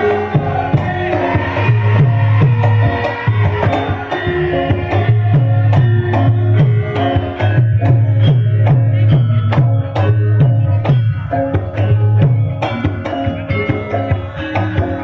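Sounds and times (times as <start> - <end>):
metallophones ringing: 0.0 - 15.0.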